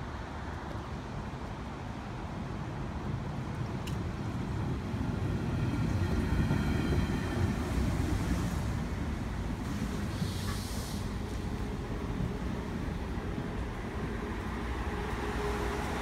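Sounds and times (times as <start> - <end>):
train rumbling past: 3.0 - 16.0.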